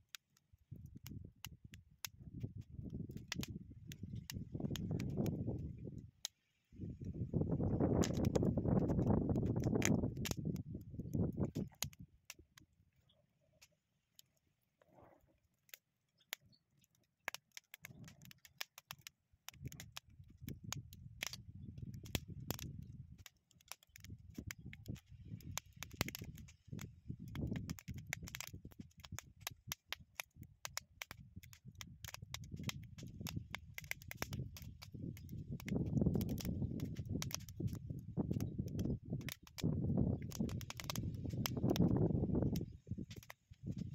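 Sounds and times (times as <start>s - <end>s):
fire crackling and popping: 0.0s - 12.8s, 13.5s - 43.9s.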